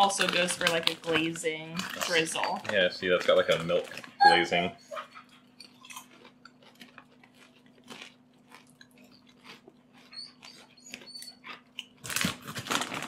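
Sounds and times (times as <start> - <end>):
popcorn chewing and crunching: 0.0 - 13.0
snack bag crinkling: 0.0 - 13.0.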